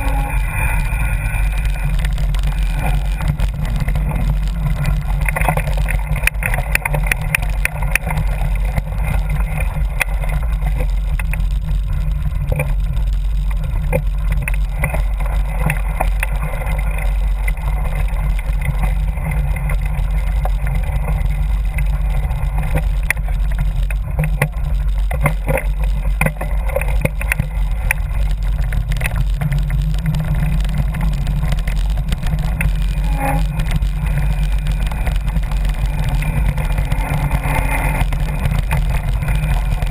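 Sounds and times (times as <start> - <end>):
bike rattling over bumps: 0.0 - 39.9
wind rumble on microphone: 0.0 - 39.9.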